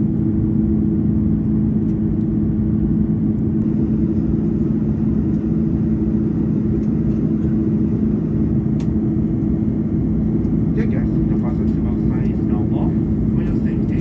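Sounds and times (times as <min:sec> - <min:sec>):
airliner cabin drone: 0:00.0 - 0:14.0.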